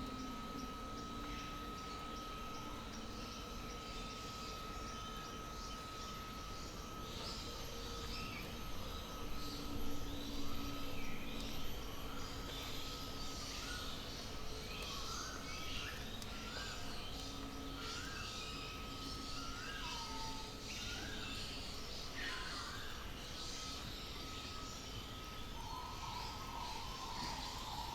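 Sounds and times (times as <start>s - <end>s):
steady background hum: 0.0s - 27.9s
thin steady whine: 0.0s - 27.9s.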